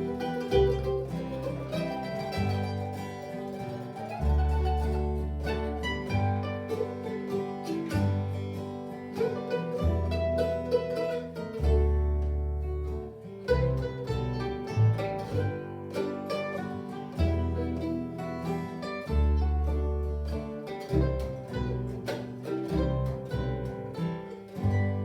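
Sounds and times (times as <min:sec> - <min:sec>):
acoustic guitar: 0:00.0 - 0:25.0
mandolin melody: 0:00.0 - 0:25.0
upright bass: 0:00.0 - 0:25.0.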